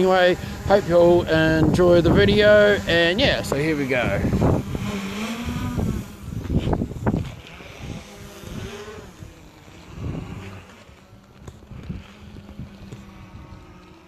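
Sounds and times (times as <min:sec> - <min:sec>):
drone propellers buzzing: 0:00.0 - 0:14.0
wind buffeting microphone: 0:00.0 - 0:14.0.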